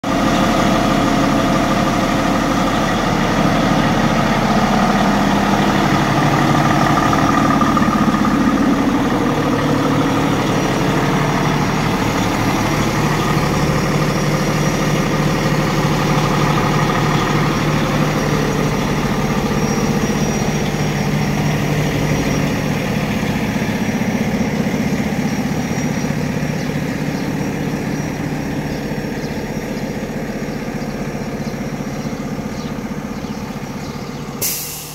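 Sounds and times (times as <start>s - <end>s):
fire truck diesel engine idling: 0.0s - 34.9s.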